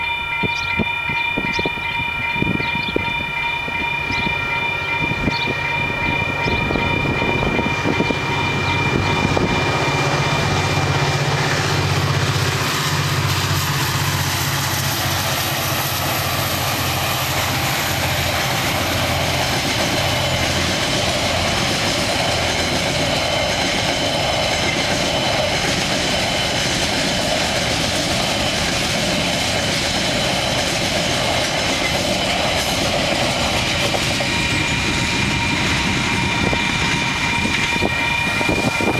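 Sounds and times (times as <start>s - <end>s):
crossing warning bells ringing: 0.0s - 38.9s
train wheels clattering: 0.0s - 38.9s
locomotive engine: 2.0s - 38.9s.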